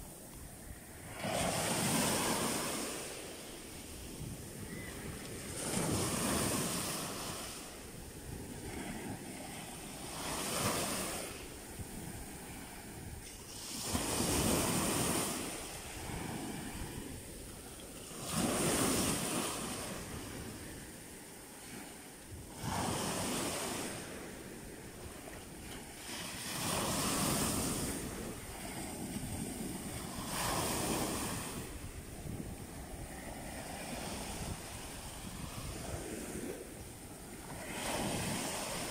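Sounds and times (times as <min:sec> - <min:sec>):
small waves breaking on sand: 0:00.0 - 0:38.9
wind buffeting microphone: 0:00.0 - 0:38.9.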